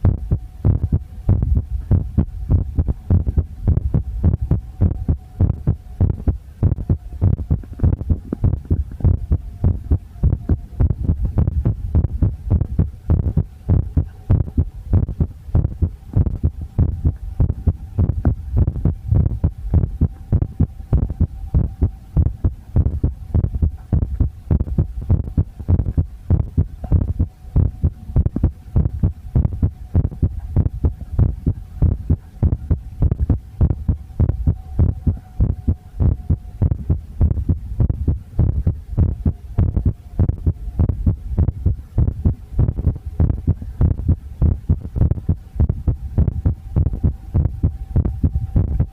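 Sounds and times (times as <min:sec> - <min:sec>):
faint steady hum: 0:00.0 - 0:48.9
heartbeat thumps: 0:00.0 - 0:48.9.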